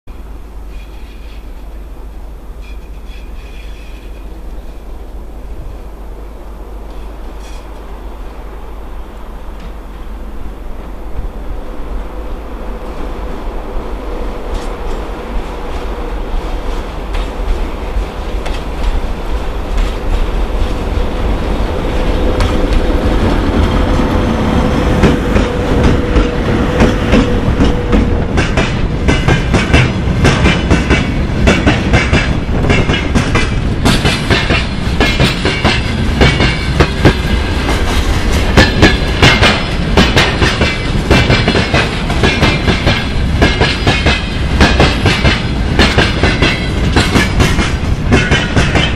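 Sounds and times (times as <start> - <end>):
locomotive hum and rumble: 0.1 - 48.9.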